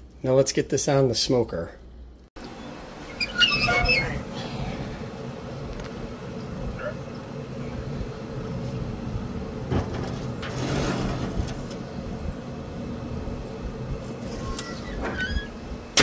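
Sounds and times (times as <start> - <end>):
smoker humming: 1.8 - 16.0.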